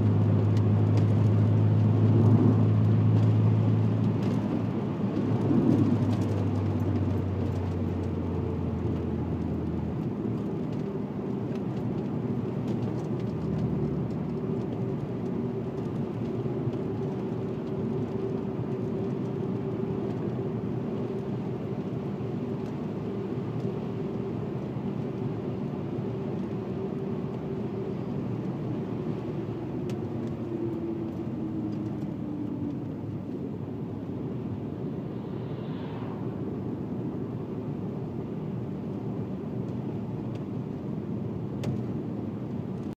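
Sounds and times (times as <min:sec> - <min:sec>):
car engine cruising: 0:00.0 - 0:42.9
tyre and road noise: 0:00.0 - 0:42.9.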